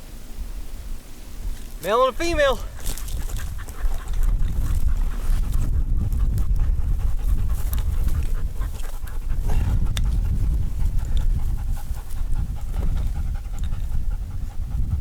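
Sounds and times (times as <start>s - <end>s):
low rumbling microphone noise: 0.0s - 15.0s
dog panting: 2.7s - 15.0s.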